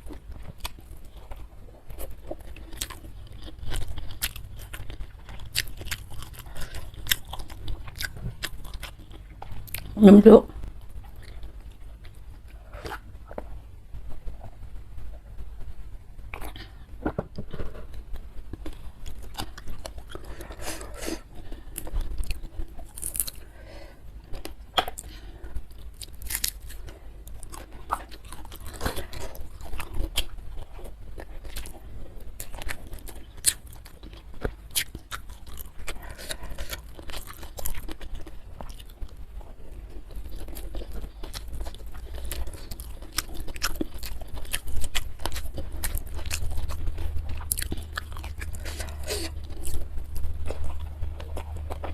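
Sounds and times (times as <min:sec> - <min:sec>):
chewing and crunching food: 0:00.0 - 0:51.9.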